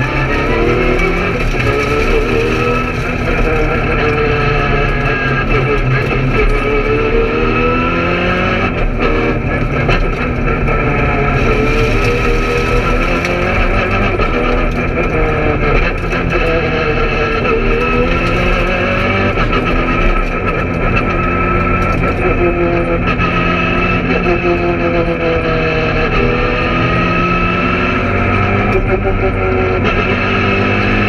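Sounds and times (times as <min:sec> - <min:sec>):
car engine revving through gears: 0:00.0 - 0:31.0.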